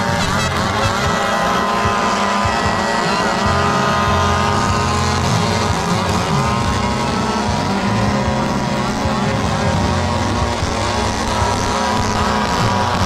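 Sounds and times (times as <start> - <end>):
engines revving loudly: 0.0 - 13.0.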